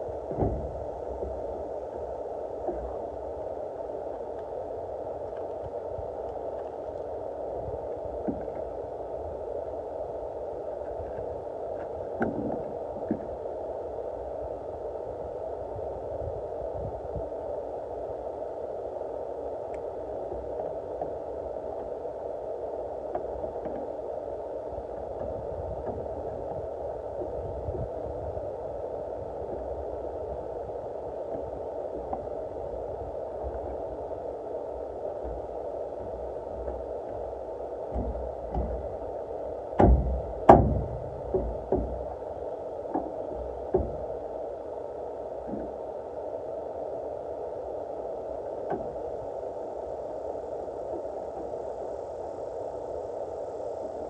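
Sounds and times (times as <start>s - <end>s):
low background rumble: 0.0s - 54.0s.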